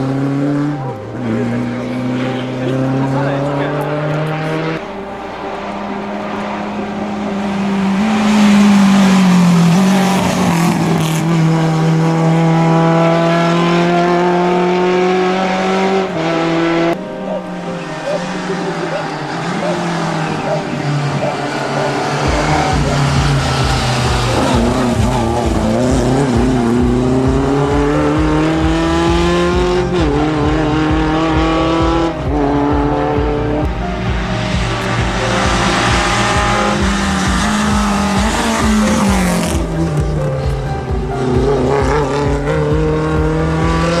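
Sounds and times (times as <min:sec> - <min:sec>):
rally car engine revving: 0:00.0 - 0:05.0, 0:05.6 - 0:44.0.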